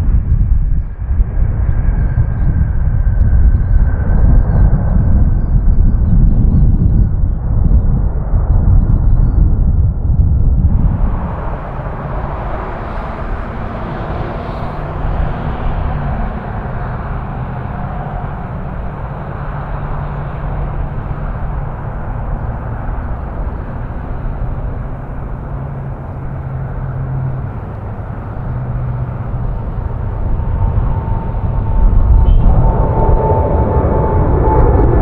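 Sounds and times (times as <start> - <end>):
distant jet engines rumbling: 0.0 - 35.0.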